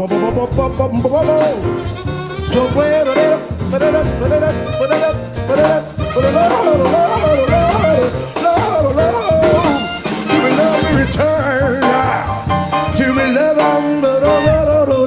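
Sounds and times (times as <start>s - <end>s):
bass line: 0.0s - 15.0s
drums: 0.0s - 15.0s
jazz melody line: 0.0s - 15.0s.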